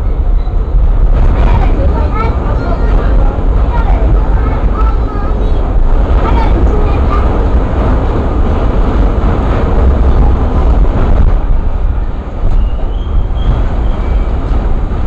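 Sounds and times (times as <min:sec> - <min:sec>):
subway car rumbling on tracks: 0:00.0 - 0:15.0.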